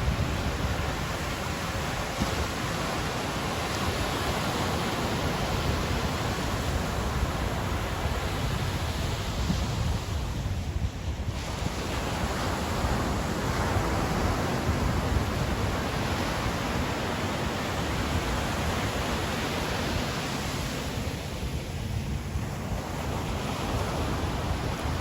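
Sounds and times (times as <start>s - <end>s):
ocean surf on beach: 0.0s - 25.0s
wind on microphone: 0.0s - 25.0s.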